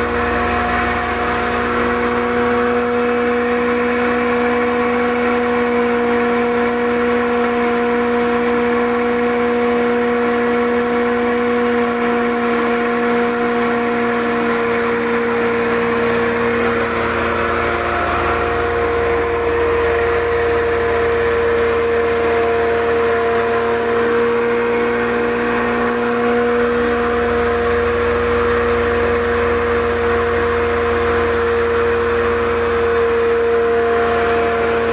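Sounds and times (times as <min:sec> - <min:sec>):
spice grinder motor humming: 0:00.0 - 0:34.9.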